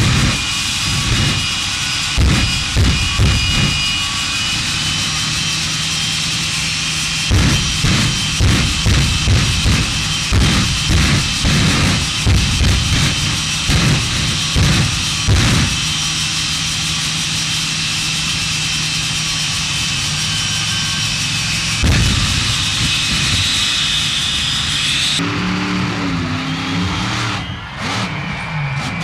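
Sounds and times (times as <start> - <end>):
engine revving: 0.0 - 29.0
monster truck engine whining: 0.0 - 29.0.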